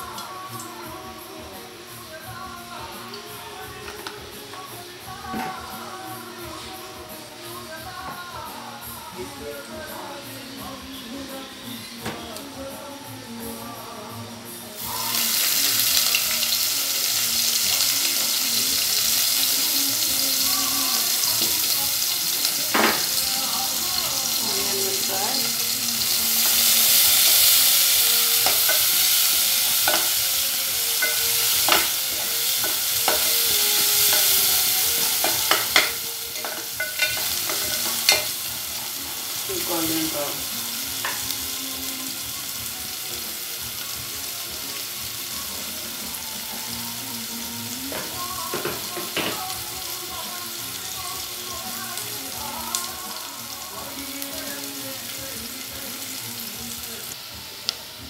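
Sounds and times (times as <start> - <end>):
onions sizzling in hot oil: 0.0 - 7.2, 13.6 - 58.0.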